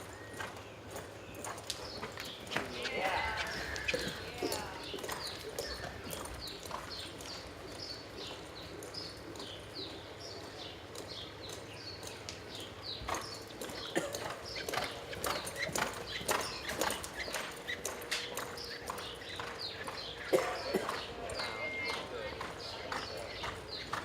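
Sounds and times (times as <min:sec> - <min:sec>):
hoofbeats on dirt: 0:00.0 - 0:24.0.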